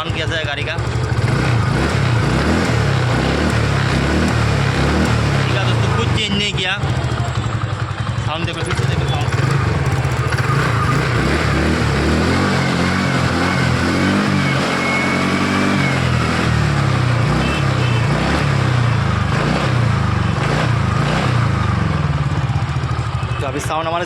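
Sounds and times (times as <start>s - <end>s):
scooter engine running and revving: 0.0s - 24.0s.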